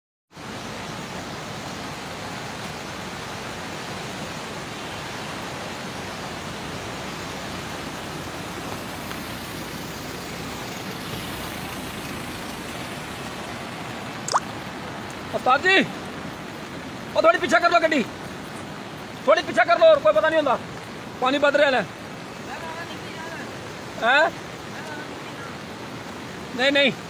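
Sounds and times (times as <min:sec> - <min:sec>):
floodwater rushing: 0:00.3 - 0:27.0.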